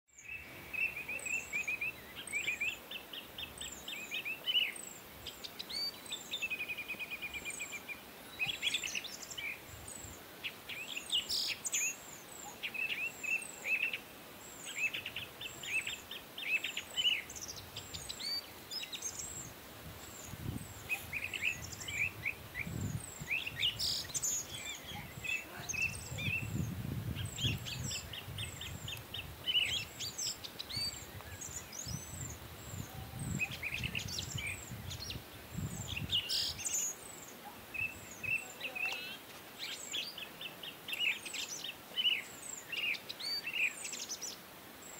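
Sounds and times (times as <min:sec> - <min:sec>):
birds chattering: 0:00.2 - 0:44.4.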